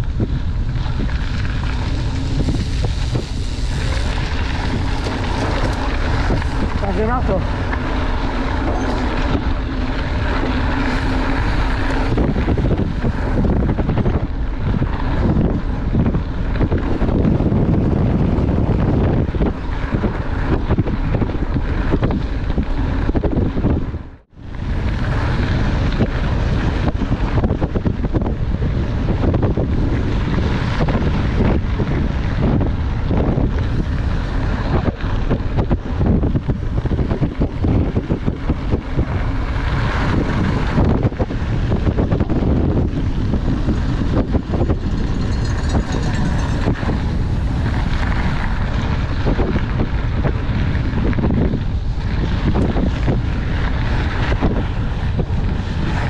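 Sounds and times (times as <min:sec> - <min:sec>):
bike rattling over stones: 0:00.0 - 0:56.0
bike tyres rumbling on gravel: 0:00.0 - 0:56.0
wind buffeting microphone: 0:00.0 - 0:56.0.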